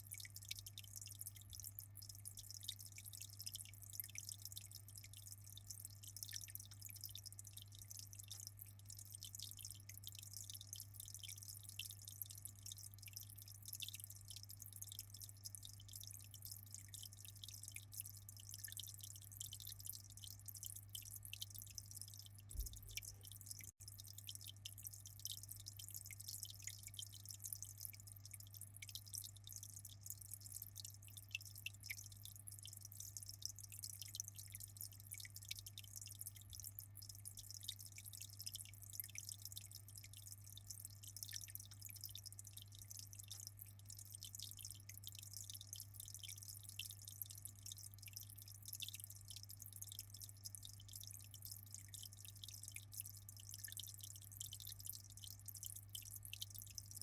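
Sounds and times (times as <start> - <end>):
aquarium water trickling: 0.0 - 57.0.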